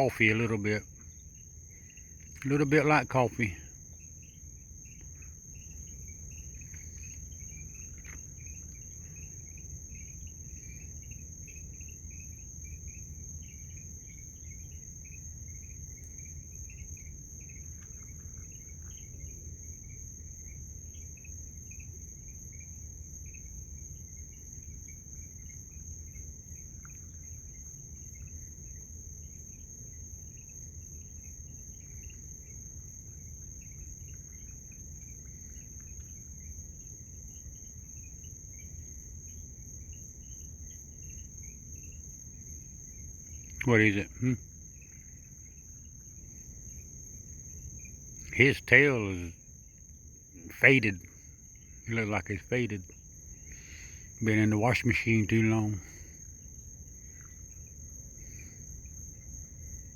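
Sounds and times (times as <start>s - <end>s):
crickets chirping: 0.0s - 59.9s
low background hum: 0.0s - 59.9s.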